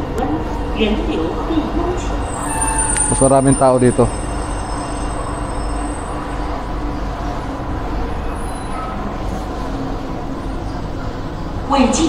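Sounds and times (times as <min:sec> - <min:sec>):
metro train rumble and hum: 0:00.0 - 0:12.0.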